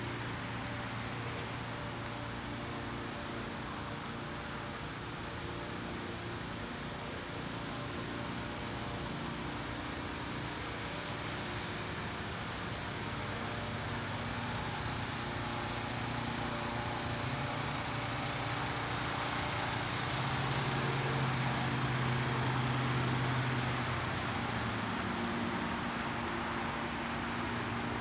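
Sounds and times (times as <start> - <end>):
distant traffic hiss and rumble: 0.0 - 28.0.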